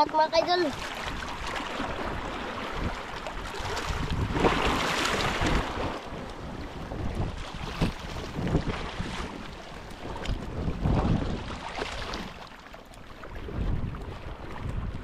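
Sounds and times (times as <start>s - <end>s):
wind buffeting microphone: 0.0s - 12.4s, 13.2s - 15.0s
water sloshing: 0.0s - 15.0s.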